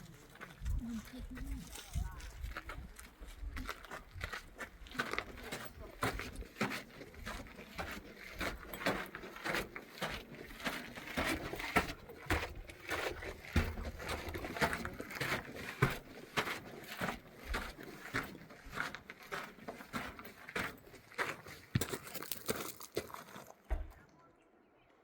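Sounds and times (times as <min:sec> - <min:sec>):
crunching footsteps: 0:00.0 - 0:24.1.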